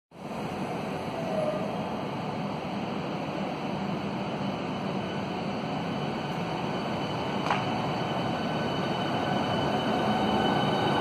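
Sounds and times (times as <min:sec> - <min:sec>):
electric train running past: 0:00.1 - 0:11.0.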